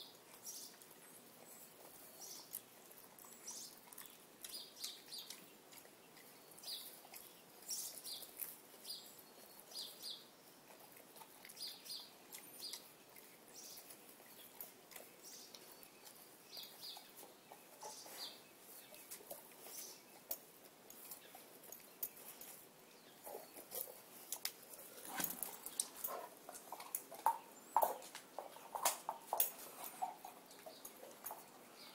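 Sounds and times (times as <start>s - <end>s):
dog chewing grass: 0.0s - 31.9s.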